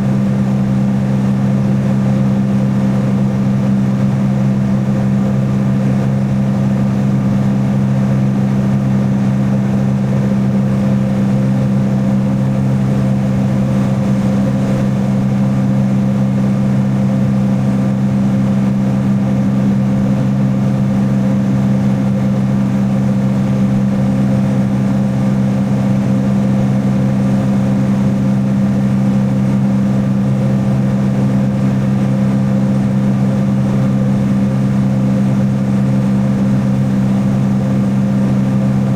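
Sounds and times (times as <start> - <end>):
jet ski engine droning: 0.0 - 38.9.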